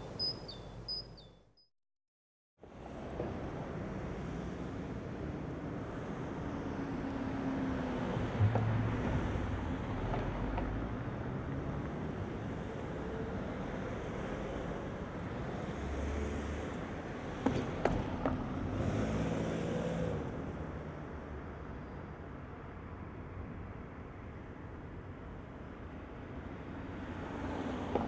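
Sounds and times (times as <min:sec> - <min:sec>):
cars approaching rumble: 0:02.6 - 0:28.0.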